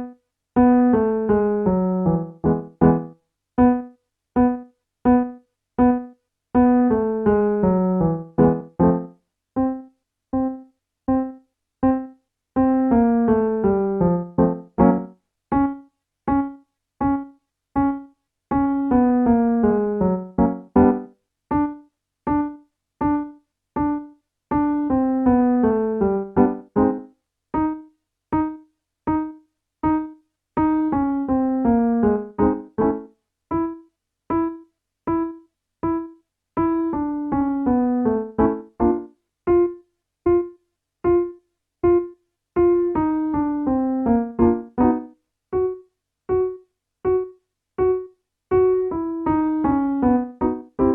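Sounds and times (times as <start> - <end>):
piano warm-up pattern: 0.0 - 50.9.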